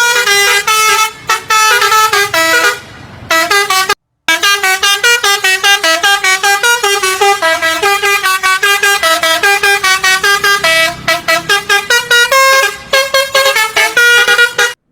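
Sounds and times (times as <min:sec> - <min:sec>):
musical horn playing a fast tune: 0:00.0 - 0:14.9.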